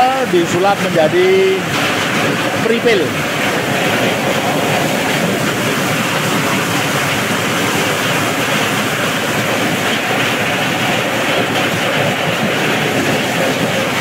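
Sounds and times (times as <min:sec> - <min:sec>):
corn sheller rattling: 0:00.0 - 0:14.0.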